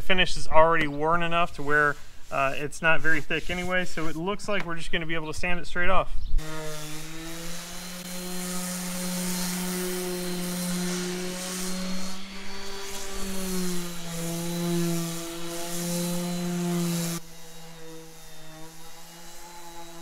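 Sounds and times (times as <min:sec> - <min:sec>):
orbit sander on wood: 0:01.3 - 0:04.6, 0:06.4 - 0:20.0.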